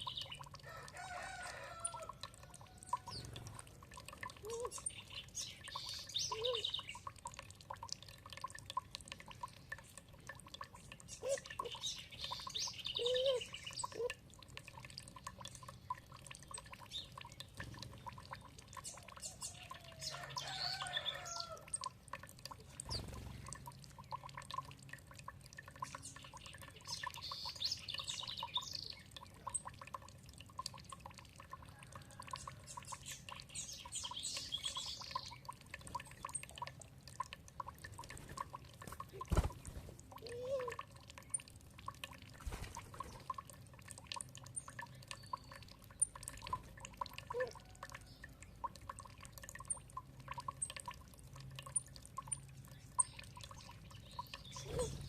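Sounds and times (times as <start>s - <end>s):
songbirds singing: 0.0s - 8.5s, 9.2s - 24.7s, 25.5s - 30.8s, 31.4s - 41.6s, 42.8s - 55.0s
water dripping and trickling: 0.0s - 55.0s.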